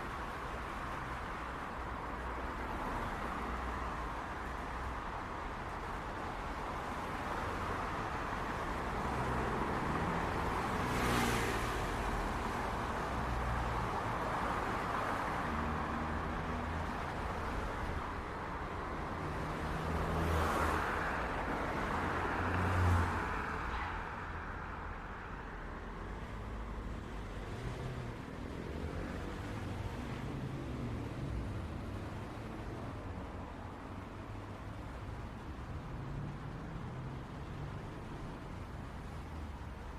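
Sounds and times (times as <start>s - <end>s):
traffic tyre and engine noise: 0.0s - 39.9s.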